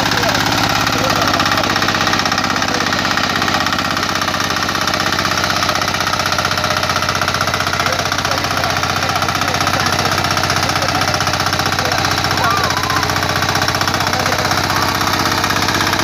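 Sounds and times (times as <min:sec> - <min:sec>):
weeder engine running: 0:00.0 - 0:16.0.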